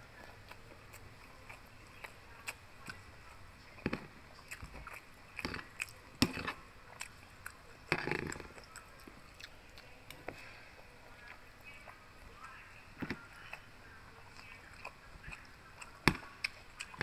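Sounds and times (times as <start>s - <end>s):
biting and chewing: 0.0s - 17.0s.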